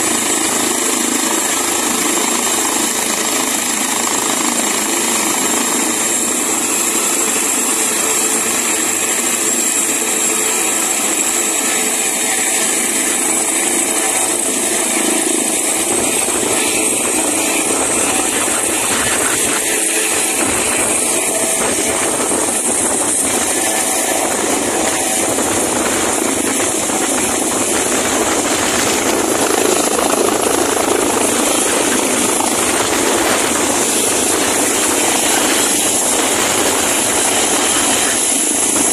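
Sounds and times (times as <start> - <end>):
helicopter turbine whine and rotors: 0.0 - 38.9.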